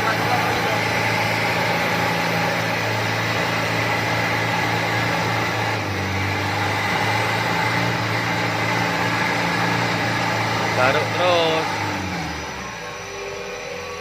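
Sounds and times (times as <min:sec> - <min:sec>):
off-road vehicle engine running: 0:00.0 - 0:13.1.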